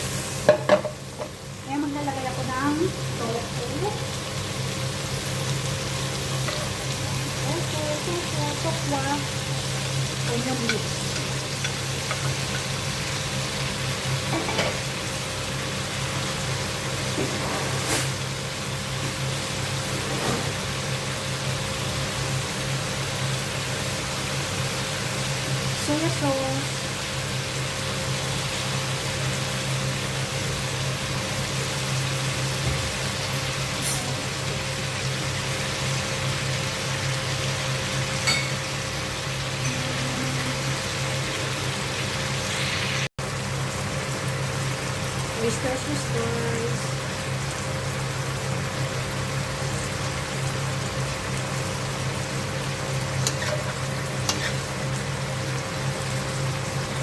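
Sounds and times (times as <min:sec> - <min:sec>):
stir-fry sizzling in a pan: 0:00.0 - 0:57.0.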